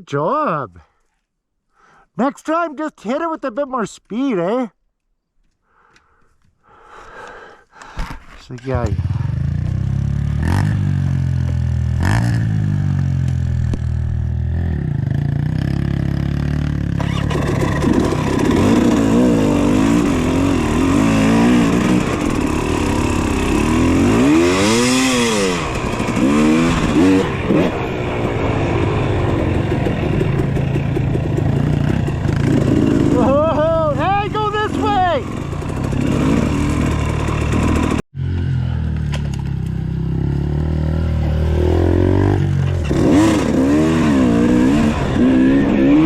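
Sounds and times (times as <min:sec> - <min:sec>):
dirt bike engine revving: 0:08.7 - 0:46.0.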